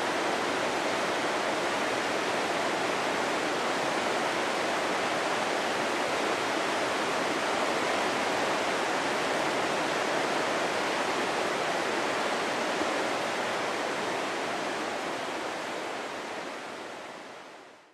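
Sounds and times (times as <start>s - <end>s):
river water rushing over rapids: 0.0s - 17.8s.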